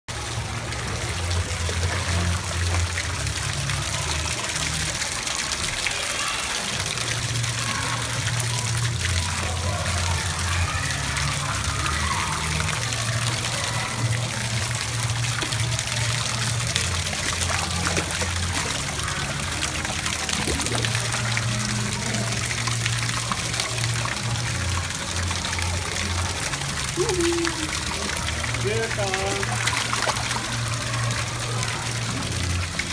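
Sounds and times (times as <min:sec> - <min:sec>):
water jets splashing into pool: 0:00.1 - 0:32.9.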